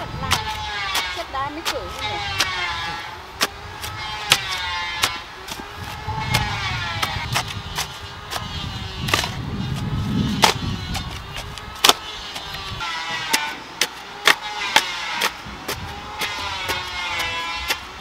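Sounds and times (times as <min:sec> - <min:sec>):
hoes chopping into soil: 0:00.0 - 0:18.0.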